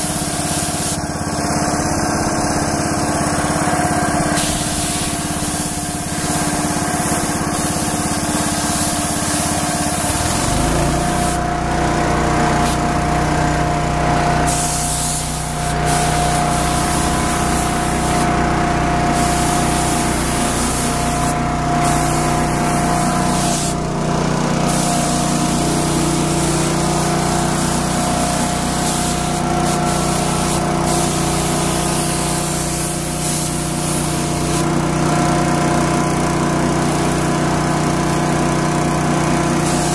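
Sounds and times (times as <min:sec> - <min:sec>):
spray gun hissing: 0:00.0 - 0:34.8, 0:36.8 - 0:38.4, 0:39.5 - 0:39.9
engine running: 0:00.0 - 0:39.9.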